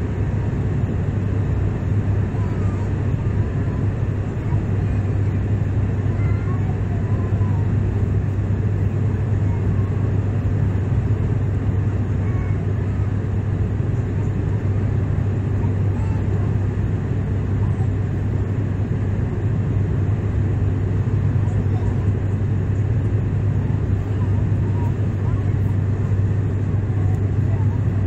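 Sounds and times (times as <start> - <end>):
jet airliner cabin drone: 0.0 - 28.0.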